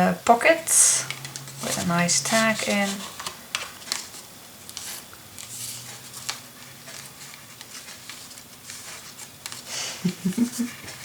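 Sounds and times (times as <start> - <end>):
paper rustling: 1.1 - 11.0.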